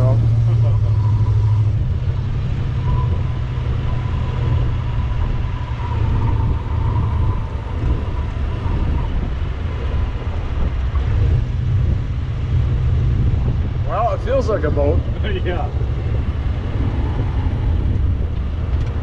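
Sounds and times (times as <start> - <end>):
car engine and road rumble: 0.0 - 19.0
thin steady whine: 0.0 - 19.0.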